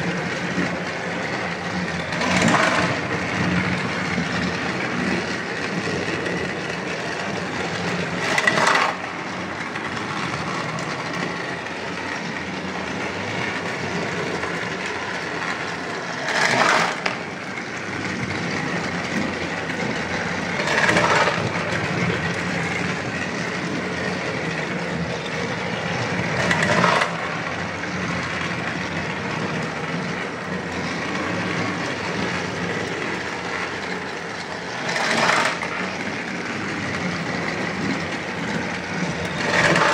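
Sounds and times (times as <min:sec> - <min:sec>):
toy train clatter: 0:00.0 - 0:39.9
toy trains whirring and rattling: 0:00.0 - 0:39.9.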